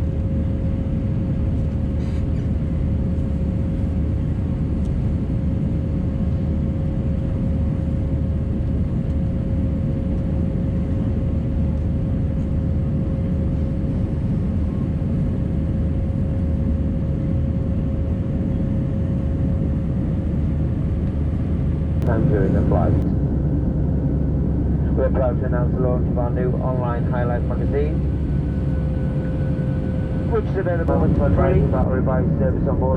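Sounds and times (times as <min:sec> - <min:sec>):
jet engine and airflow rumble: 0:00.0 - 0:32.9
mid-pitched hum: 0:00.0 - 0:32.9.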